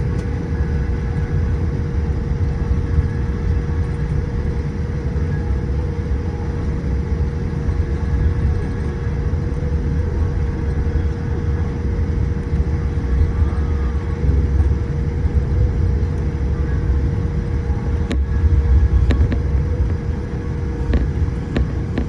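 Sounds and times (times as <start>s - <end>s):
airliner cabin rumble: 0.0s - 22.0s
constant hum: 0.0s - 22.0s.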